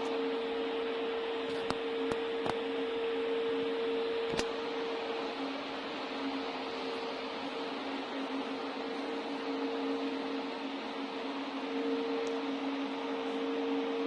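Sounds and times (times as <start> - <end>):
production machinery humming and hissing: 0.0 - 14.0.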